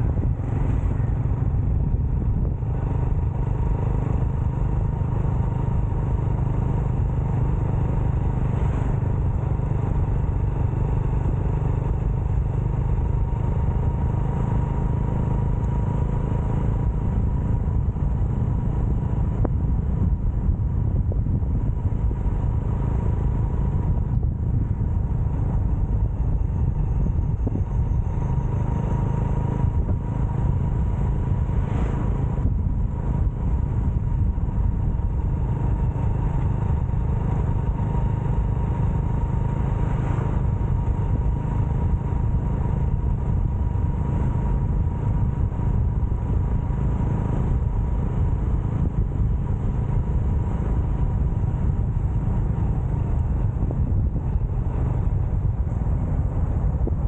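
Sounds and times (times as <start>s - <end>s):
motorcycle engine hum: 0.0s - 57.0s
wind rushing on microphone: 0.0s - 57.0s.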